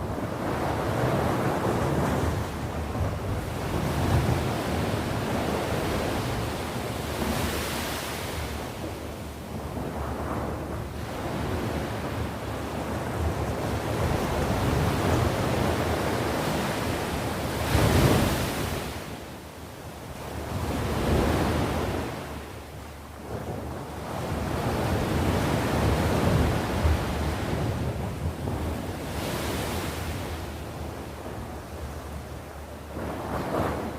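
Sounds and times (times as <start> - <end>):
sea waves washing onto shore: 0.0 - 33.9.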